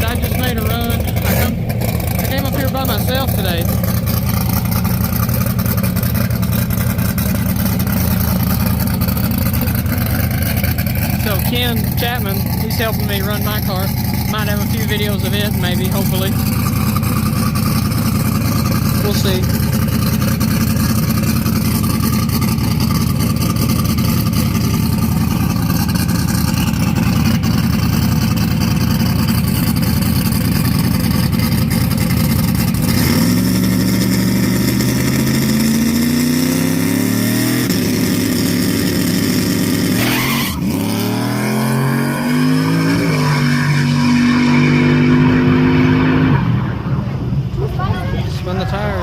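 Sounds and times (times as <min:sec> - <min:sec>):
racing car engine accelerating: 0:00.0 - 0:47.6.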